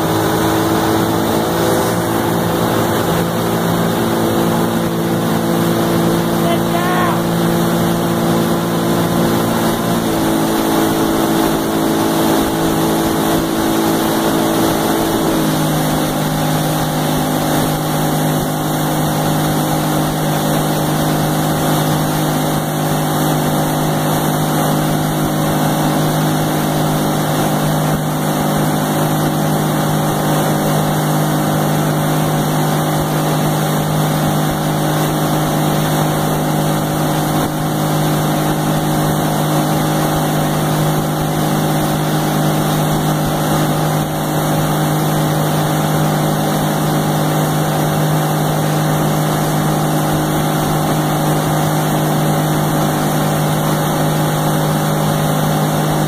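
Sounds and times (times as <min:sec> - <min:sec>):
hiss of churning wake: 0:00.0 - 0:56.0
motorboat engine running: 0:00.0 - 0:56.0.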